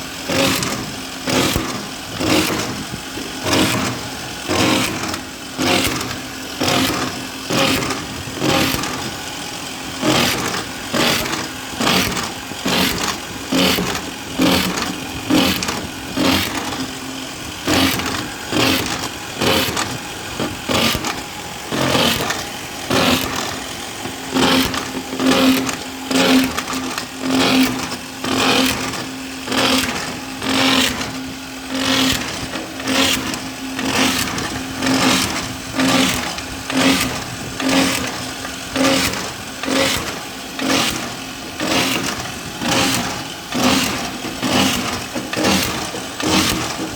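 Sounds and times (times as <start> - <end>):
hydraulic drill motor hum: 0.0 - 46.9
rhythmic drill pulses: 0.0 - 46.9.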